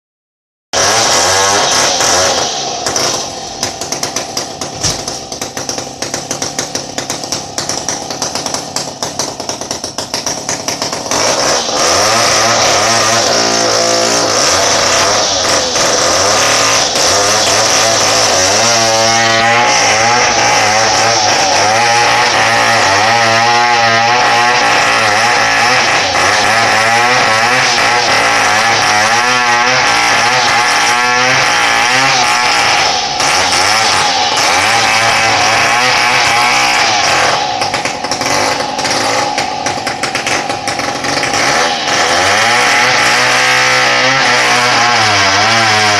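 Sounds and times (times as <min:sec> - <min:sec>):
two-stroke chainsaw running: 0:00.8 - 0:45.9.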